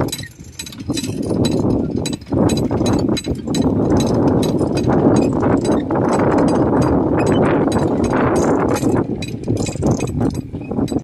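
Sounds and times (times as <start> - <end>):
rough grinding of winch: 0.0 - 11.0
winch ratchet pawl clicking: 0.0 - 11.0.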